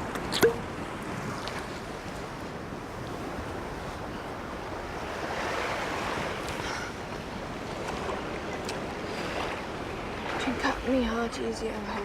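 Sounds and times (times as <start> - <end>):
ocean waves washing on shore: 0.0 - 12.0
wind: 0.0 - 12.0.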